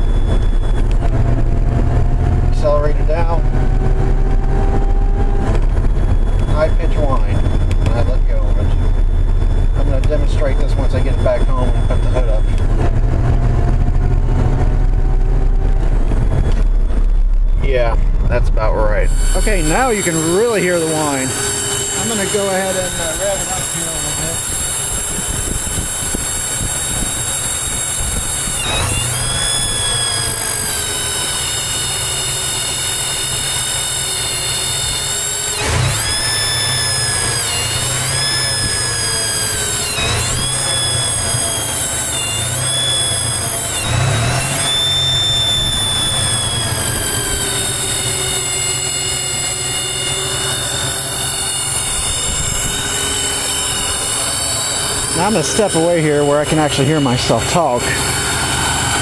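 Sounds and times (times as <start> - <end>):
car engine idling and revving: 0.0 - 59.0
high-pitched vacuum leak whine: 0.0 - 59.0.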